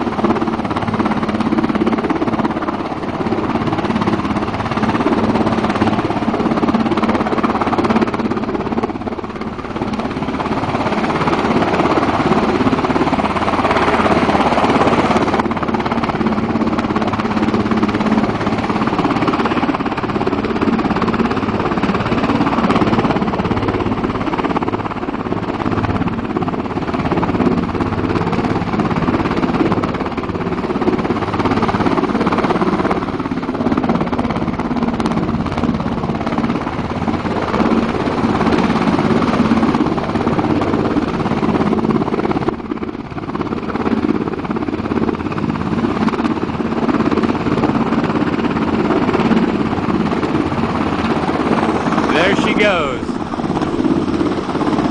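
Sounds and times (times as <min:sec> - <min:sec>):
helicopter hovering: 0:00.0 - 0:54.9.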